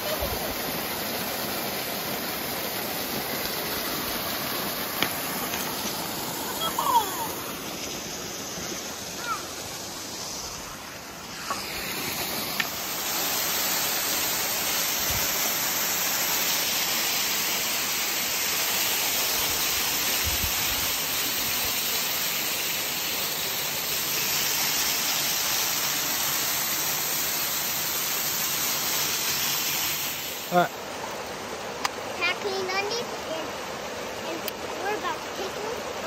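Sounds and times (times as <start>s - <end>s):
flowing water rushing: 0.0s - 36.0s.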